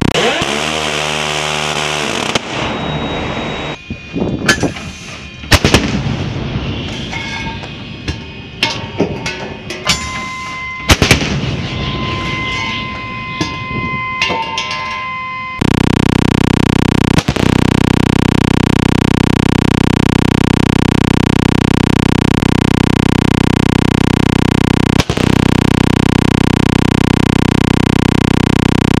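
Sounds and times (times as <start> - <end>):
loud electronic buzz: 0.0 - 14.3, 14.9 - 29.0.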